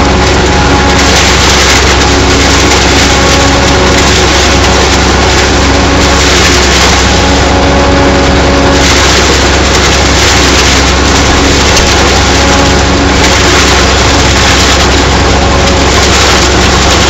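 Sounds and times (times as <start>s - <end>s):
forage harvester machine noise: 0.0s - 17.0s
tractor diesel engine under load: 0.0s - 17.0s.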